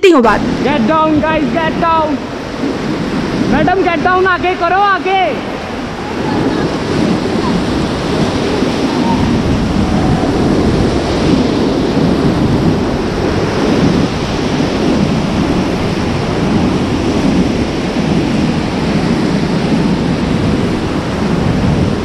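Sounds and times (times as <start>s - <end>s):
whitewater rapids rushing: 0.5s - 22.0s.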